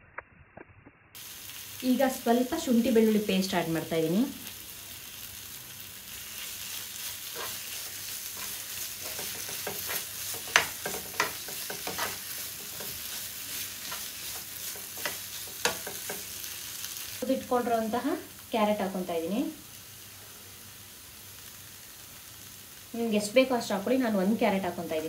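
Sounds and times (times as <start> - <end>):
food sizzling in frying pan: 1.2 - 25.0.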